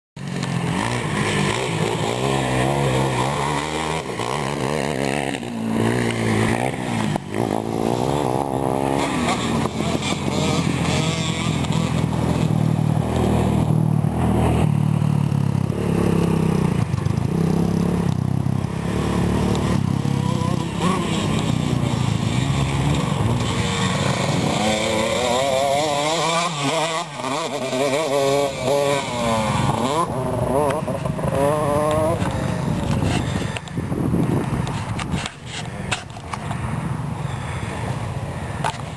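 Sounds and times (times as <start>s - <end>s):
dirt bike engine revving: 0.2s - 36.1s.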